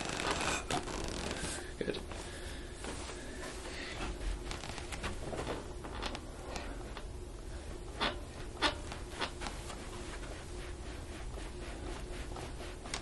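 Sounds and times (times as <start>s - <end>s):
rustling and rubbing: 0.0s - 7.0s, 7.7s - 13.0s.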